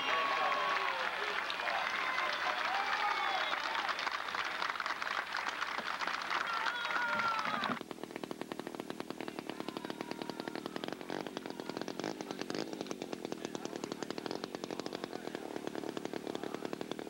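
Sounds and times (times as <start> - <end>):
model aircraft engine running: 0.0 - 17.0.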